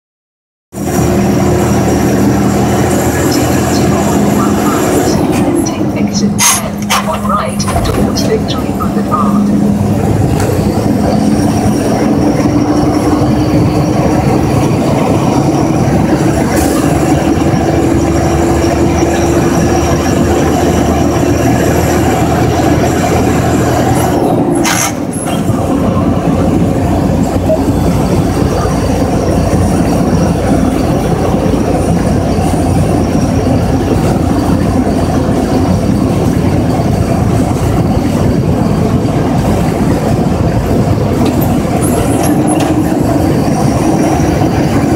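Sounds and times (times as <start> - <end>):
road rumble: 0.7 - 44.9
truck diesel engine: 0.7 - 44.9.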